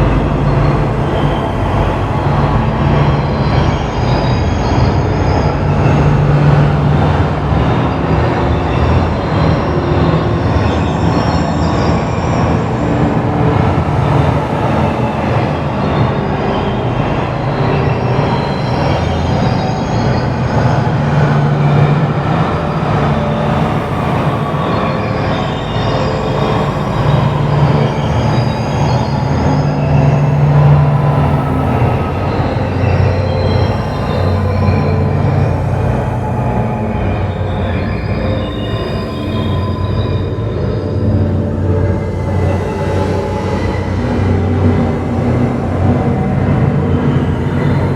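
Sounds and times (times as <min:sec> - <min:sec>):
dense steady rumbling noise: 0:00.0 - 0:47.9.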